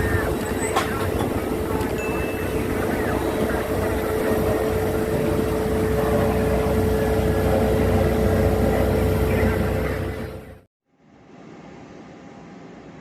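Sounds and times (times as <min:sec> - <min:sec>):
aircraft engines at takeoff power: 0:00.0 - 0:13.0.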